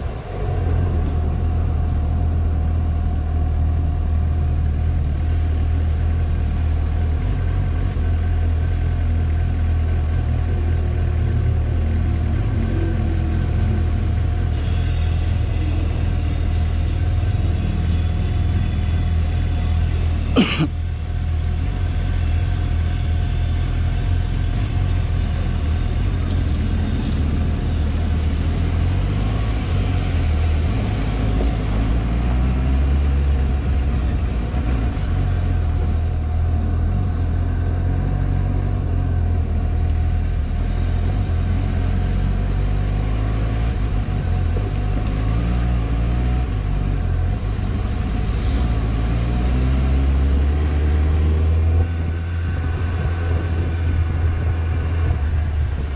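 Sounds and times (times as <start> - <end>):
motorcycle engine rumbling: 0.0 - 55.9.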